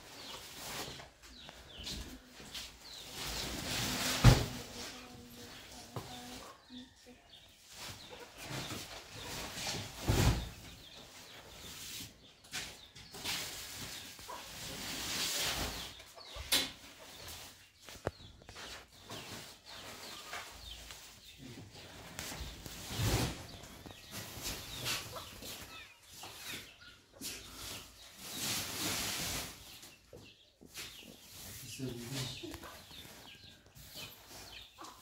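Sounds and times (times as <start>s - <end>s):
sacks rustling and scraping on tiles: 0.0s - 7.0s, 7.6s - 16.3s, 17.0s - 30.0s.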